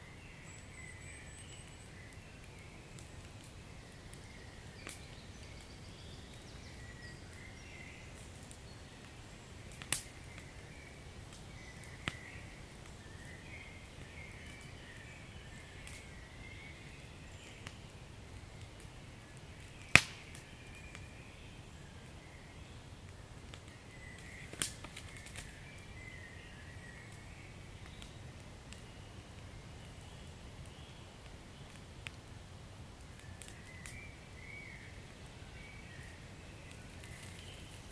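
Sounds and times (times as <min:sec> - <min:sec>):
wood fire crackling and popping: 0:00.4 - 0:37.9.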